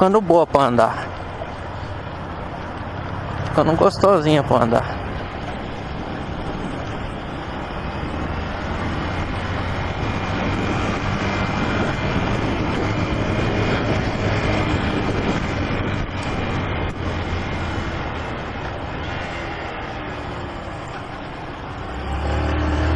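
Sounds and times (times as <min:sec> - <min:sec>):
wind and road noise: 0:00.0 - 0:22.9
motorcycle engine running: 0:01.0 - 0:22.9.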